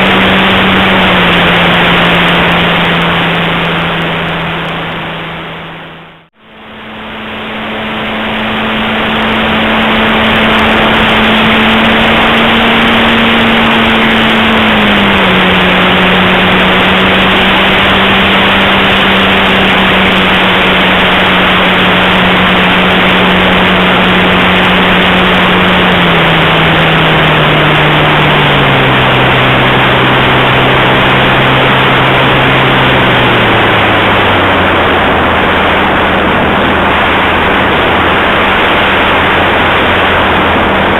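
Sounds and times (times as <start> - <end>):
model airplane propeller hum: 0.0 - 40.9
wind rush: 0.0 - 40.9.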